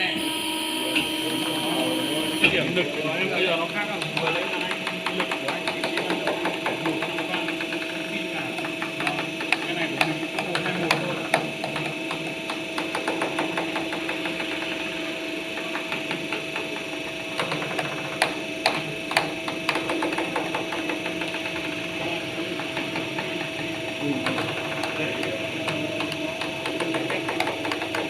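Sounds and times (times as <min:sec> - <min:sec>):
bending machine motor hum: 0:00.0 - 0:28.0.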